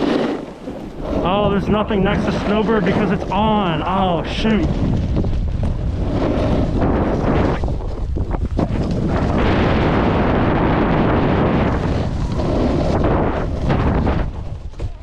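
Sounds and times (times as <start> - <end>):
snowboard sliding over snow: 0.0 - 15.0
wind buffeting microphone: 0.0 - 15.0.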